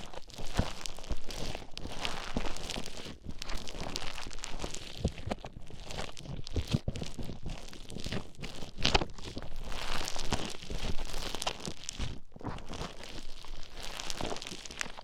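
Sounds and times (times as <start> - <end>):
foam beads crunching and crackling: 0.0 - 15.0.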